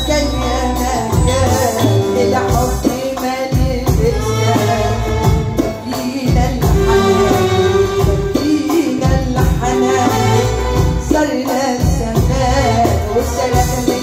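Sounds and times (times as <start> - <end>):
jingling hand percussion: 0.0 - 14.0
live amplified band music: 0.0 - 14.0
steady drum beat: 0.0 - 14.0
woman singing into a microphone: 0.0 - 14.0.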